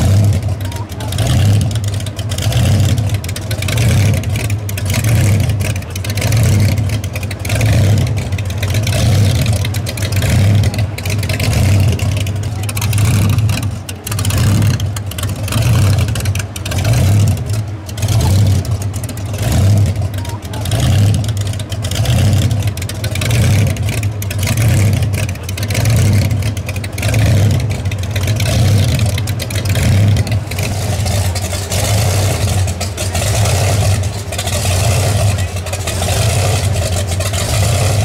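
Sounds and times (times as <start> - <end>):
supercharged engine lumpy idle: 0.0 - 38.0.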